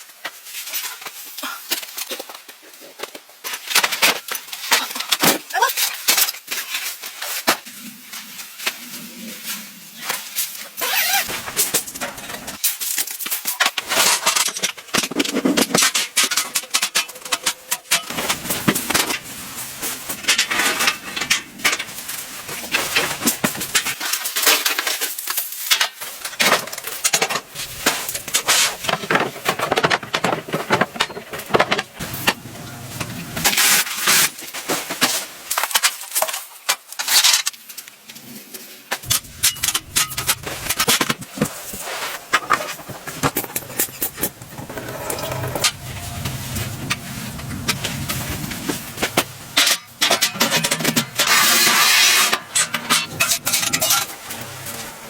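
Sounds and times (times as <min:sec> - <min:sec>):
rustling of handled objects: 0:00.2 - 0:55.0.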